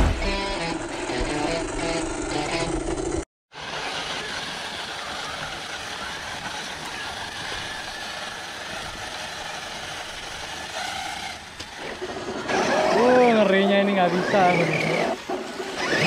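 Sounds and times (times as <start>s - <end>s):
electric motor whirring: 0.3s - 16.0s.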